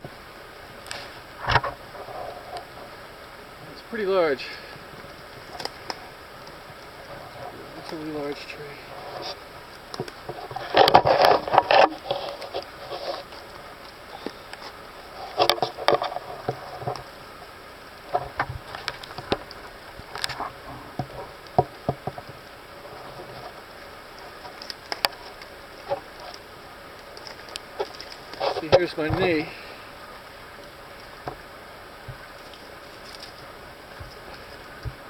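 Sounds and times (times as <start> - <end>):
leaves and brush rustling: 0.0 - 35.0.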